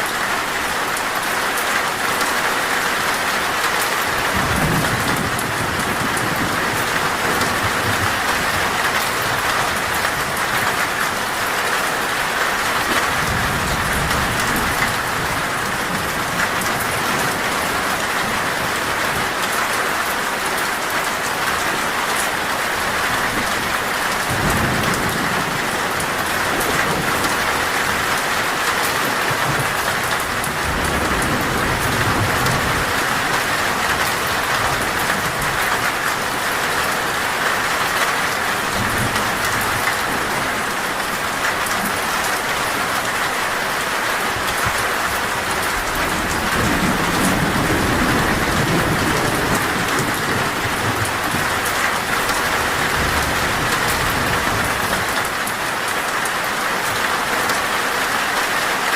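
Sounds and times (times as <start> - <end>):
heavy rain on a metal roof: 0.0 - 58.9
thunder rumbling: 4.2 - 19.4, 21.4 - 55.5.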